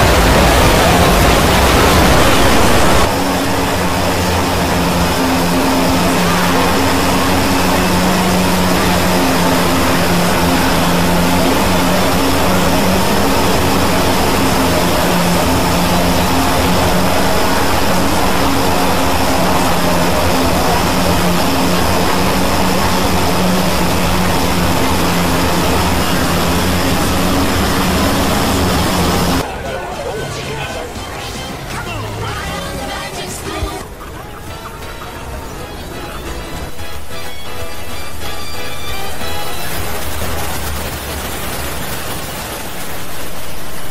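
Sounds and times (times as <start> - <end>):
layered video soundtracks: 0.0 - 43.8
low hums: 0.0 - 43.9.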